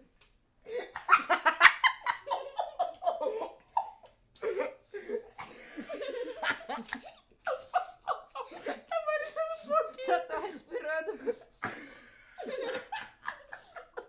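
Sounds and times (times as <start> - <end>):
woman and boy laughing: 0.7 - 14.0.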